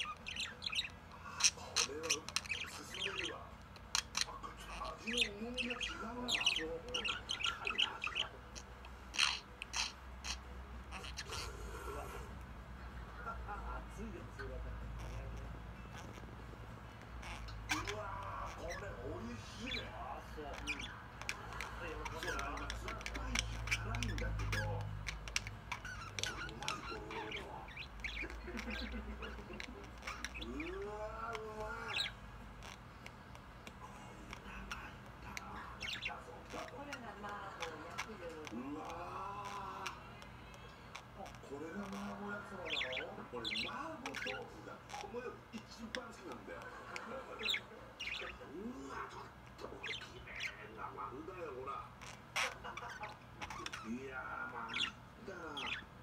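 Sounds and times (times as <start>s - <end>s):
budgerigar chirping: 0.0s - 12.2s, 13.2s - 56.0s
budgerigar harsh noises: 0.0s - 56.0s.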